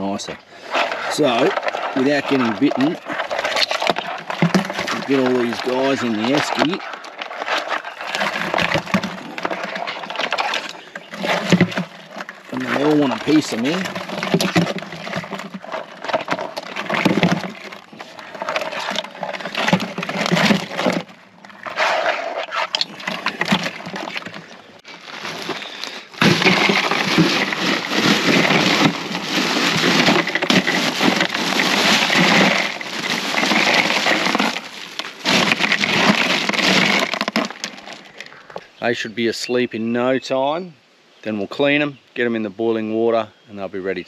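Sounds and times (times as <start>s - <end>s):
crabs and ice clattering: 0.0s - 38.7s
dense pouring sound: 0.9s - 38.1s.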